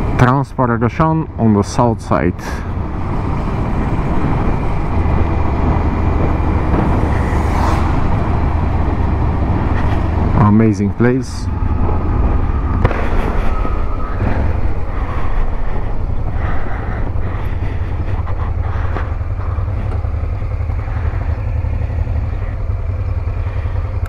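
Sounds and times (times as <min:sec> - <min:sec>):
wind rumble on microphone: 0:02.6 - 0:23.6
motorcycle engine running: 0:02.6 - 0:24.0.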